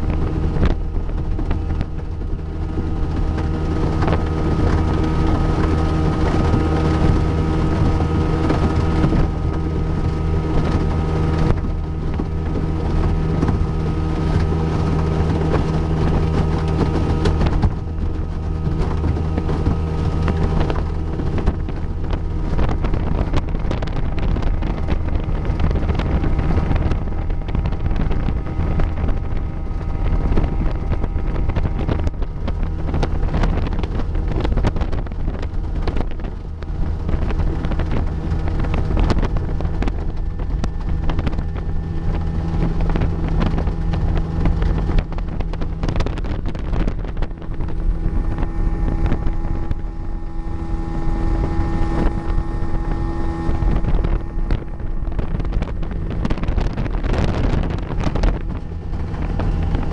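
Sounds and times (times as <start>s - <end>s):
outboard motor running: 0.0s - 59.9s
wind buffeting microphone: 0.0s - 59.9s.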